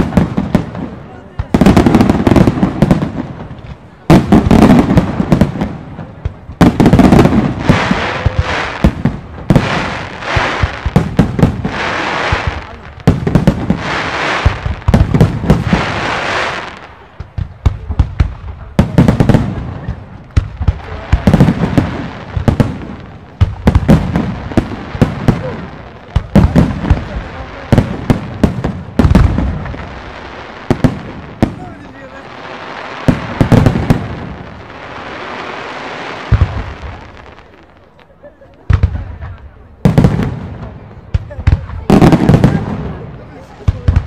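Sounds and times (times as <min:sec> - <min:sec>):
fireworks bursting: 0:00.0 - 0:44.0
fireworks hissing: 0:00.0 - 0:44.0.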